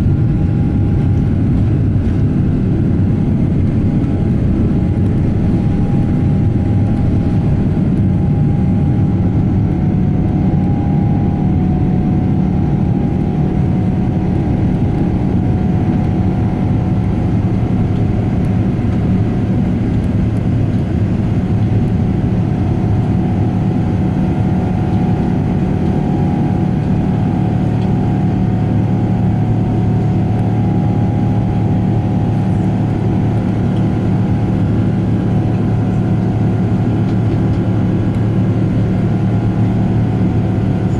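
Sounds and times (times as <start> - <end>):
faint steady whine: 0.0 - 40.9
jet engine cabin hum: 0.0 - 40.9.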